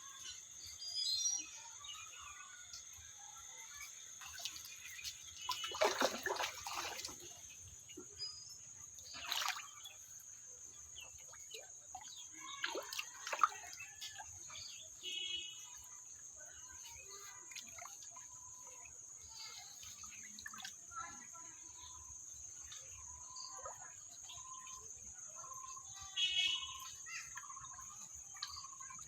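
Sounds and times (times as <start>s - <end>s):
water splashing and sloshing: 3.7s - 29.0s.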